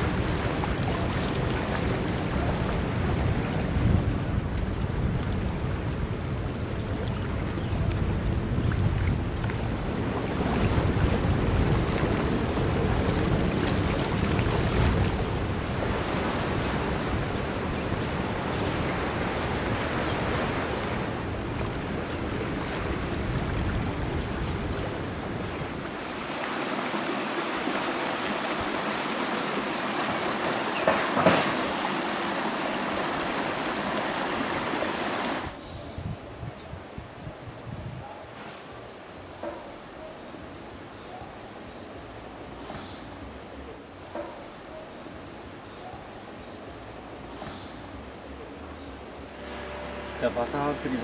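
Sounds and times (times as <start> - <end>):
water rushing and splashing: 0.0 - 37.1, 38.3 - 51.0
wind: 0.0 - 51.0.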